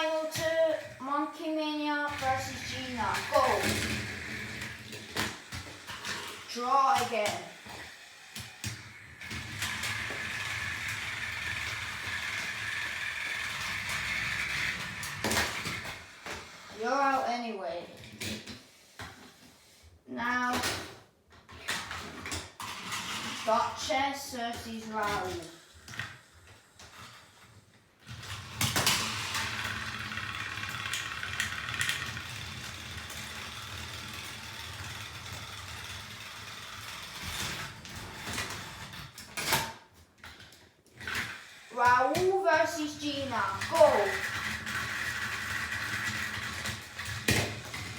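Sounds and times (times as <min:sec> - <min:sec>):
toy train motors whirring: 0:00.0 - 0:20.5, 0:21.5 - 0:47.9.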